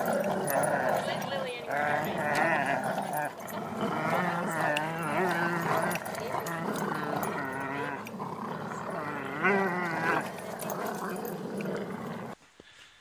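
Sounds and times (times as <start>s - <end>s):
dogs growling and whining: 0.0s - 12.4s.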